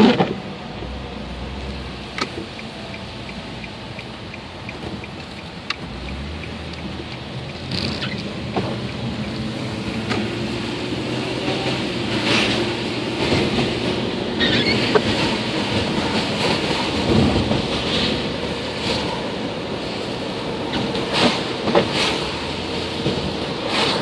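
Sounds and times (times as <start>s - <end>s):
low car rumble: 0.0s - 24.0s
tyres rushing on wet pavement: 0.0s - 24.0s.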